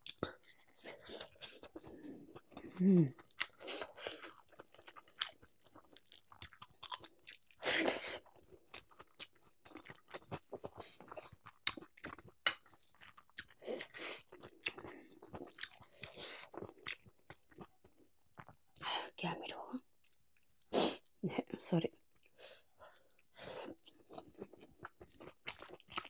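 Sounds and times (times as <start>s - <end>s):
person chewing and crunching food: 0.0s - 18.8s, 22.2s - 26.0s.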